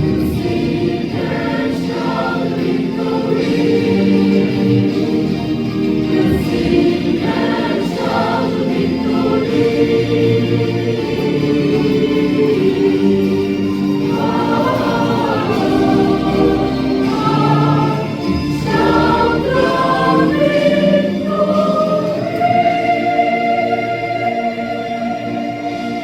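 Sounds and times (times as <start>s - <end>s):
congregation singing a hymn: 0.0s - 26.0s.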